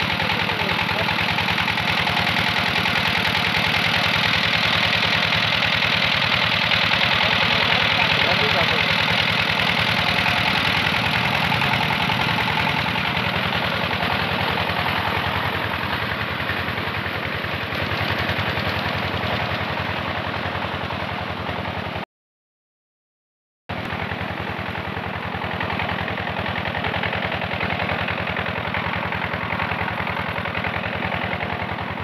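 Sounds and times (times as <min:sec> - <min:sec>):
diesel pump engine running: 0:00.0 - 0:22.0, 0:23.7 - 0:32.0.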